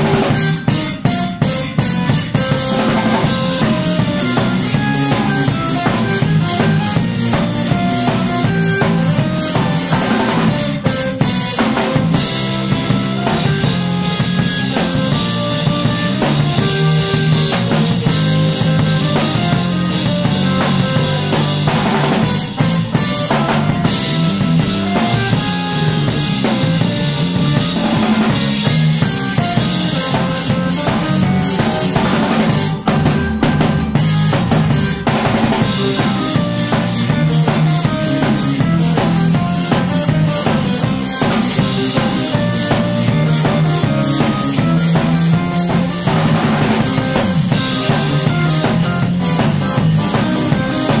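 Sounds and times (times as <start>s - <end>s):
bass guitar low notes: 0.0s - 51.0s
drum kit played hard: 0.0s - 51.0s.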